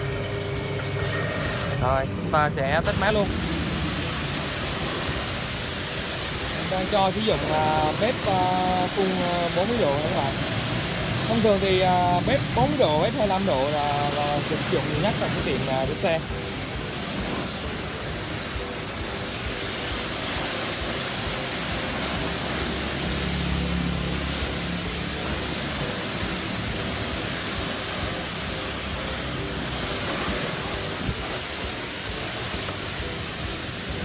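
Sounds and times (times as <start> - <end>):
pressure washer spraying water: 0.0 - 34.0.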